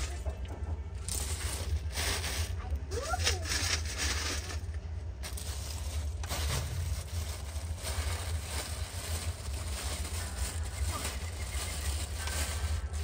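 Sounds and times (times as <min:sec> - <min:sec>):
dry flakes rattling: 0:00.0 - 0:13.0
low steady rumble: 0:00.0 - 0:13.0
plastic bag crinkling: 0:00.0 - 0:13.0.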